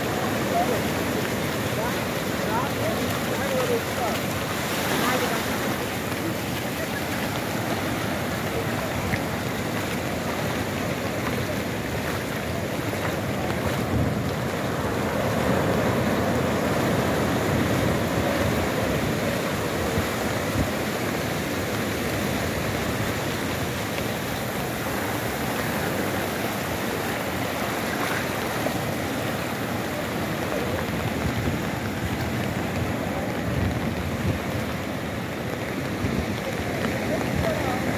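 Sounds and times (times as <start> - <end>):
surf breaking on beach: 0.0 - 37.9.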